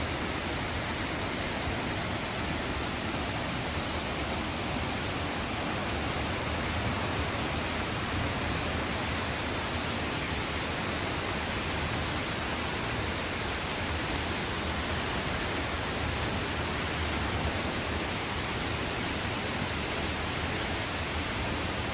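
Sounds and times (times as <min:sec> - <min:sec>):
river rushing over falls: 0:00.0 - 0:21.9.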